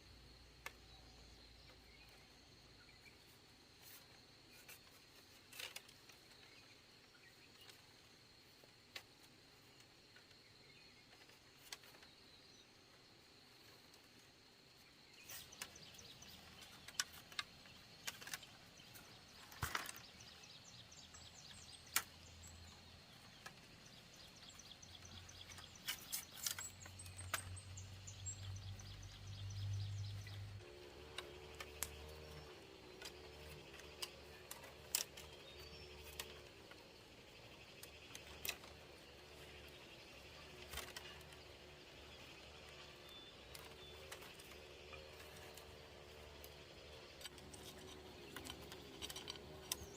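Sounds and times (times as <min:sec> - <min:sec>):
faint bird chirps: 0:00.0 - 0:49.9.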